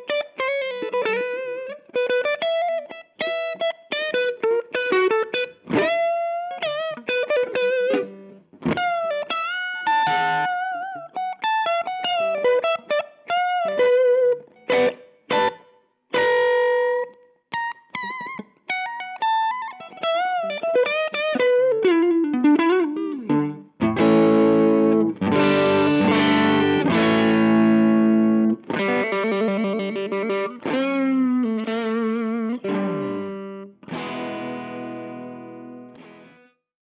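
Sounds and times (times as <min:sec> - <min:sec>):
ringing electric guitar chords: 0:00.0 - 0:36.5
electric guitar lead lines: 0:00.0 - 0:36.6.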